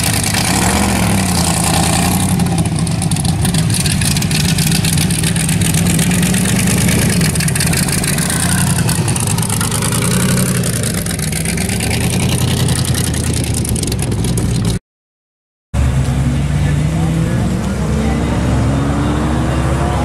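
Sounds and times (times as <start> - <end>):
loud truck engine running: 0.0 - 14.8, 15.8 - 20.0.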